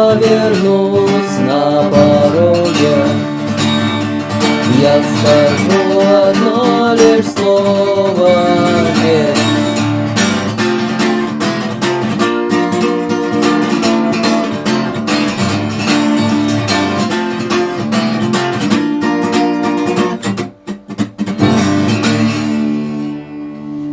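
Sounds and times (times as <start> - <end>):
acoustic guitar strumming chords: 0.0 - 23.9.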